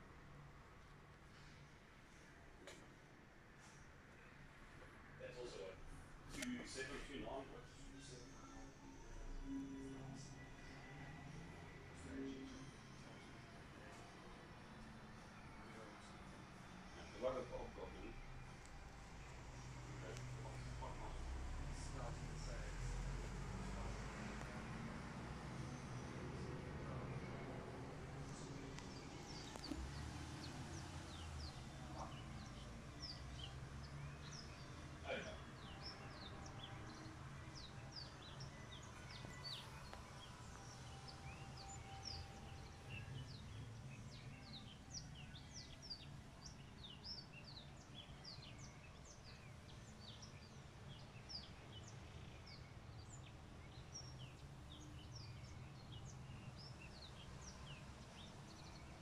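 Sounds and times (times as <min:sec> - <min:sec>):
small birds chirping: 0:11.8 - 0:59.0.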